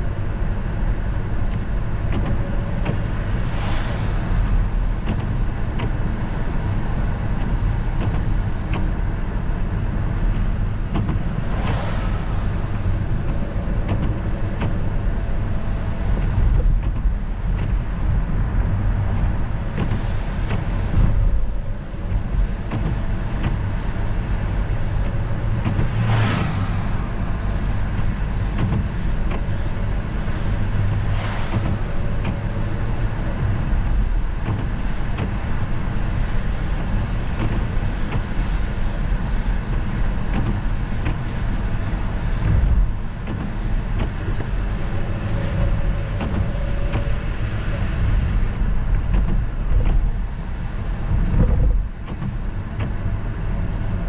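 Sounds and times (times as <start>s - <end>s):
car driving on wet street: 0.0s - 54.0s.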